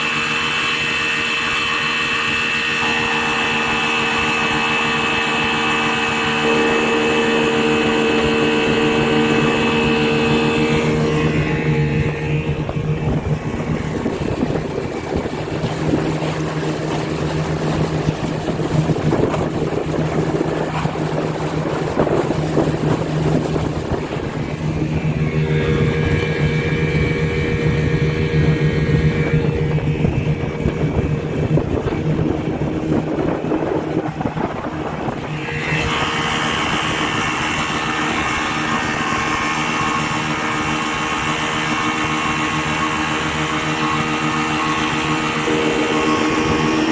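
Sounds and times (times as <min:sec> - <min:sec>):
outboard motor running: 0:00.0 - 0:46.9
water rushing: 0:00.0 - 0:46.9
wind: 0:00.0 - 0:46.9.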